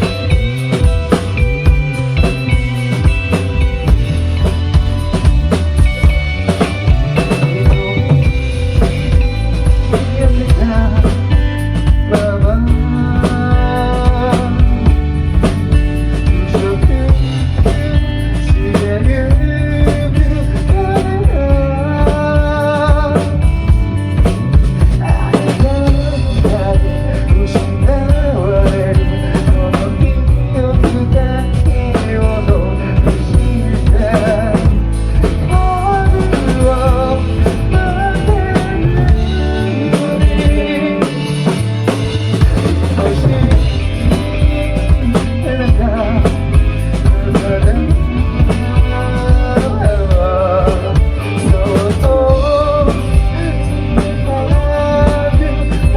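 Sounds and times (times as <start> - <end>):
wavering melodic line: 0.0 - 50.6
drum kit beat: 0.0 - 55.9
rock band playing live: 0.0 - 55.9.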